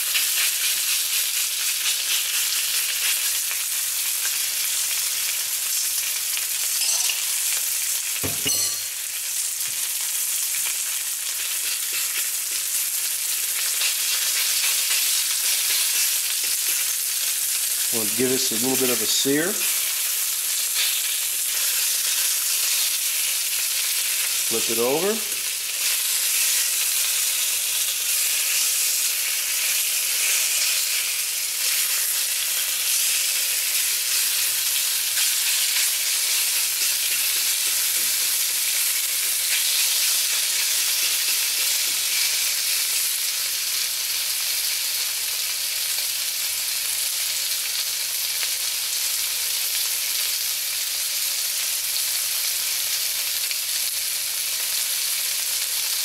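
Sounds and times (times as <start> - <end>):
meat sizzling in oil: 0.0 - 56.0.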